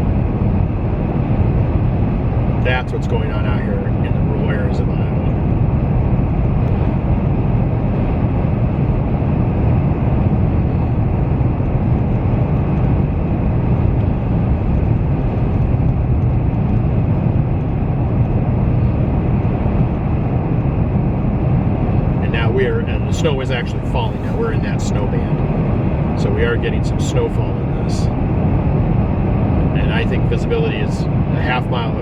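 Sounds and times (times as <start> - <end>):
road and wind noise in car: 0.0 - 32.0.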